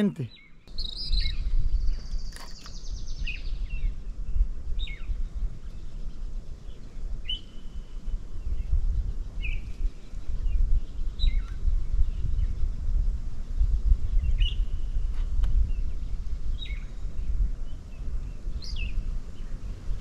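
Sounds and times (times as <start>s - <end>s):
bird calls and chirps: 0.0s - 12.6s, 14.0s - 20.0s
wind rumbling on microphone: 0.7s - 20.0s.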